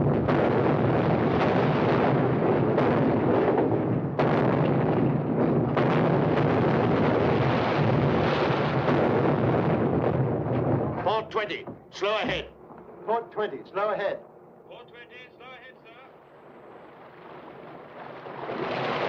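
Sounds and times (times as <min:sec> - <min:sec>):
underwater depth charge explosions: 0:00.0 - 0:13.1, 0:16.2 - 0:19.0.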